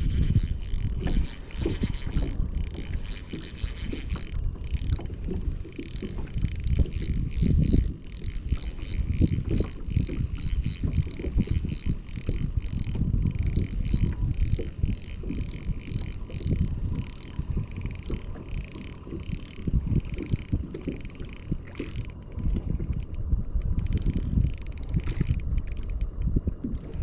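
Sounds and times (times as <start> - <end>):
fishing reel whirring: 0.0 - 27.0
wind rumble on microphone: 0.0 - 27.0.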